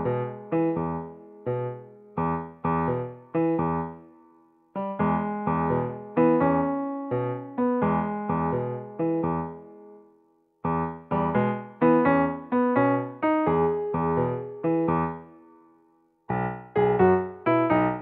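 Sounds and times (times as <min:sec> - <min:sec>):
gentle keyboard chords: 0:00.0 - 0:10.0, 0:10.6 - 0:15.6, 0:16.3 - 0:18.0.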